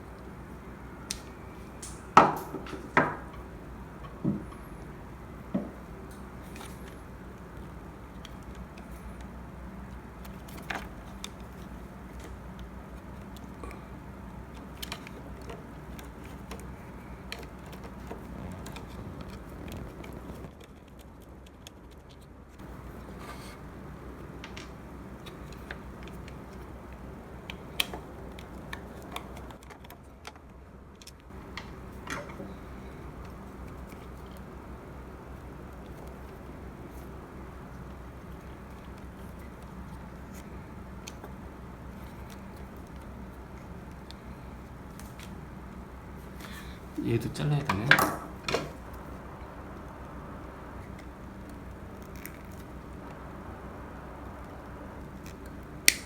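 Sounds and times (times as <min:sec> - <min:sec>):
steady low hum: 0:00.0 - 0:20.5, 0:22.6 - 0:29.6, 0:31.3 - 0:56.0.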